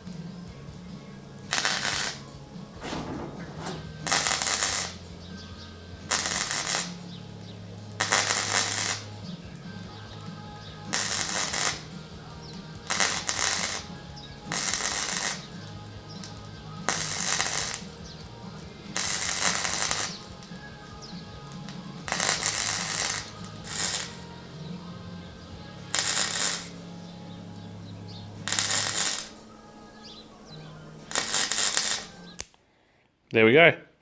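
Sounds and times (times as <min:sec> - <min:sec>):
welder crackling: 0:01.5 - 0:05.2, 0:06.0 - 0:24.6, 0:25.4 - 0:32.6.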